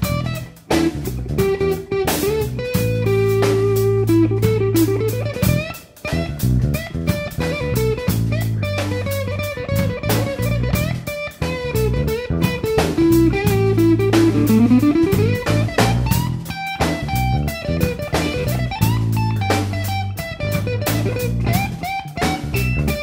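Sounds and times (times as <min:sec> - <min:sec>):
drum kit beat: 0:00.0 - 0:23.0
electric guitar: 0:00.0 - 0:23.0.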